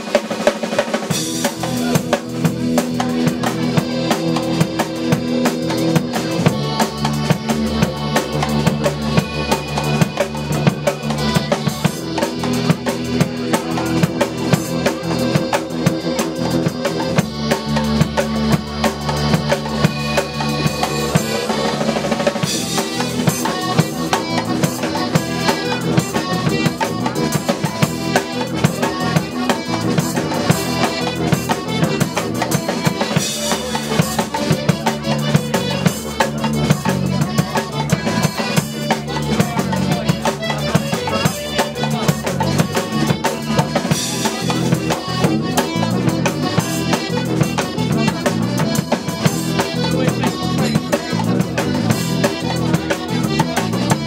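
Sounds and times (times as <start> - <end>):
drum kit beat: 0.0 - 54.0
tuba bass: 1.1 - 54.0.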